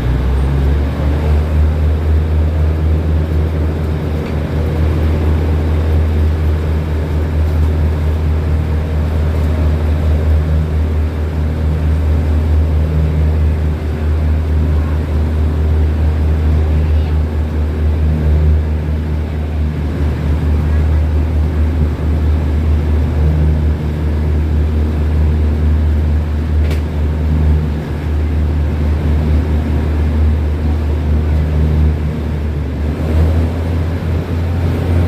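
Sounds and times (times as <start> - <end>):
diesel train engine drone: 0.0 - 35.0.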